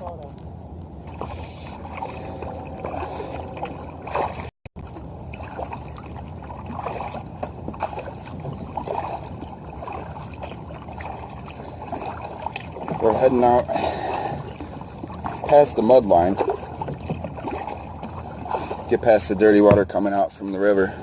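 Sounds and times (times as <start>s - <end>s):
water splashing and dripping: 0.8s - 19.0s
paddle strokes in water: 1.0s - 20.2s.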